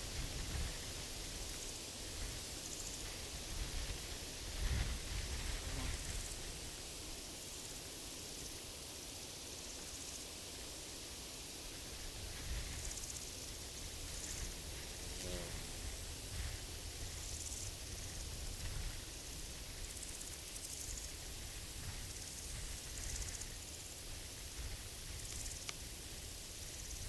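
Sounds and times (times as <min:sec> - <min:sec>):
low rumble of breeze: 0:00.0 - 0:08.9, 0:10.0 - 0:27.0
crickets chirping: 0:00.0 - 0:27.0.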